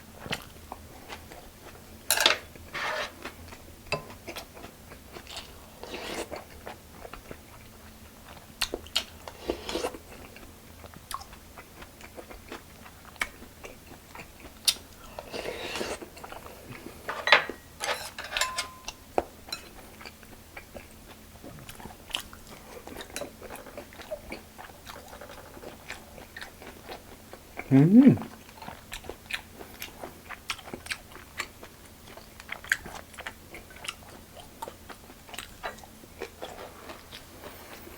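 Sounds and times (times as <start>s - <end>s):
person chewing and crunching food: 3.1s - 17.1s, 19.7s - 37.9s.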